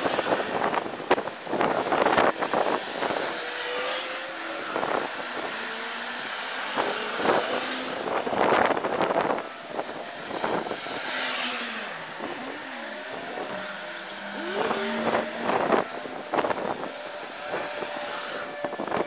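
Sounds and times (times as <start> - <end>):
cars passing by: 0.0 - 19.0
steady street noise: 0.0 - 19.0.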